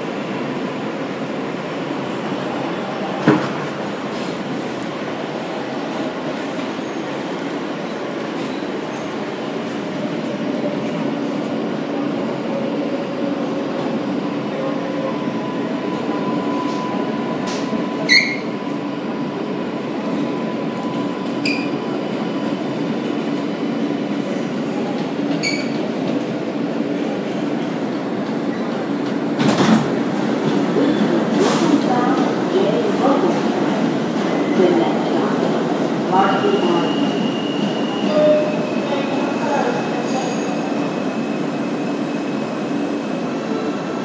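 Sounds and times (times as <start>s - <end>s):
subway train rumble and motor hum: 0.0s - 44.0s.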